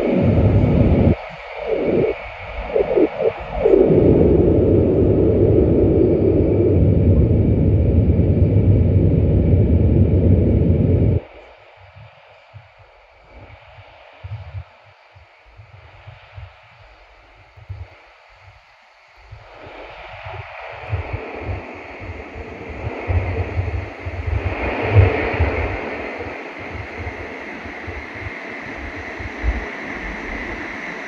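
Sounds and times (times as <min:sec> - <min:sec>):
train rumble and rushing noise: 0:00.0 - 0:13.6, 0:19.3 - 0:31.0.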